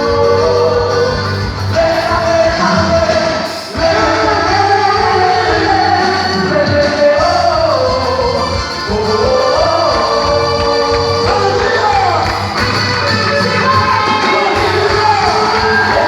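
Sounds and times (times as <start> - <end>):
sung melody over a steady beat: 0.0 - 16.0.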